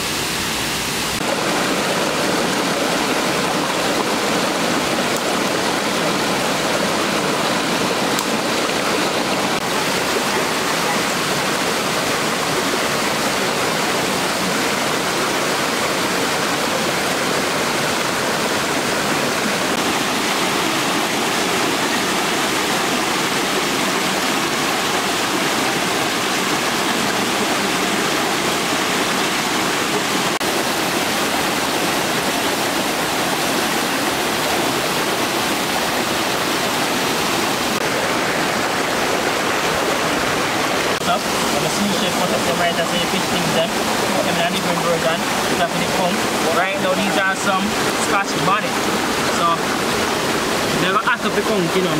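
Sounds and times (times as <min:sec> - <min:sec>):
river water rushing: 0:00.0 - 0:51.9.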